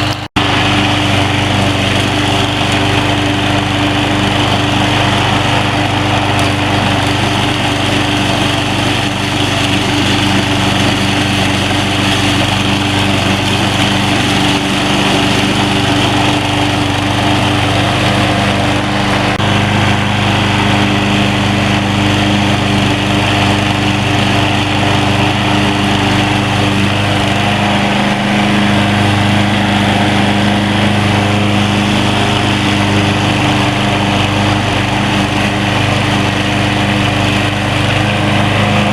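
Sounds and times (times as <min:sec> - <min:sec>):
lawn mower cutting grass: 0:00.0 - 0:38.9.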